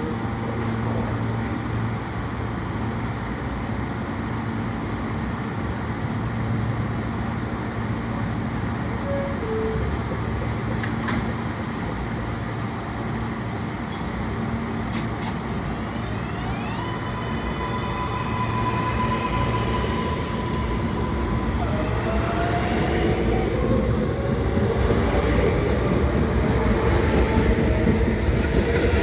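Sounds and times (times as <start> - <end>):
subway train whining: 0.0 - 29.0
train rumble: 0.0 - 29.0.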